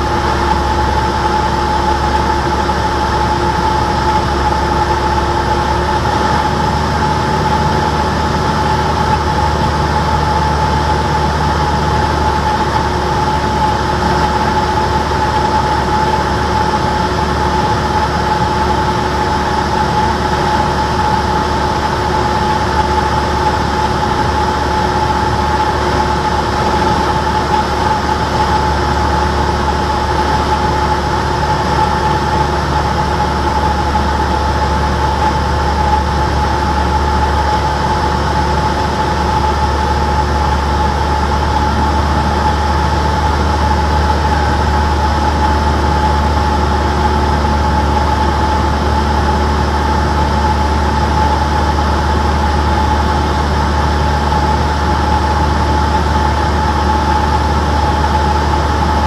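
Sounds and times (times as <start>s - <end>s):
airplane engine drone: 0.0s - 59.0s.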